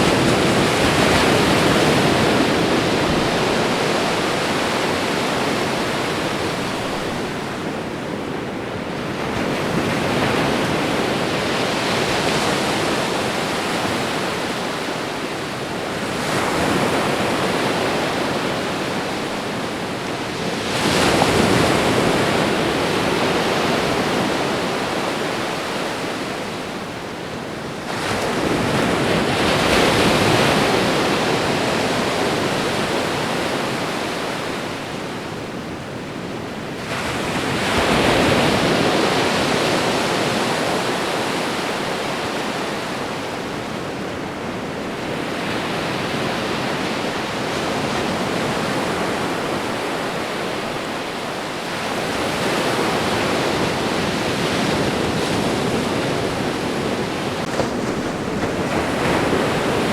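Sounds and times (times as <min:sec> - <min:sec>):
ocean waves on shore: 0:00.0 - 0:59.9.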